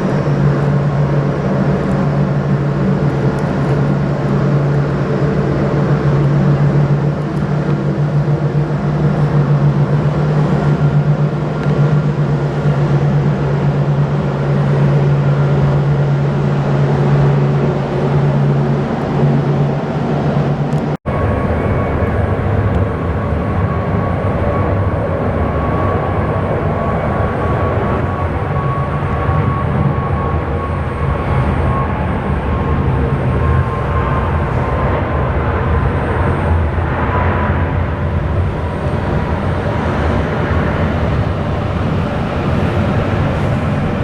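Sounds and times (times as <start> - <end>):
aircraft engine humming: 0.0 - 44.0.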